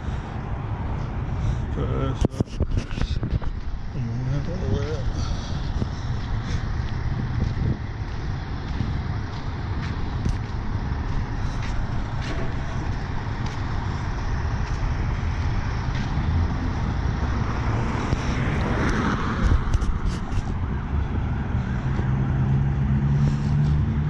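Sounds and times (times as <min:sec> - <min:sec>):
cars and trucks passing: 0:00.0 - 0:24.0
truck engine: 0:00.0 - 0:24.0.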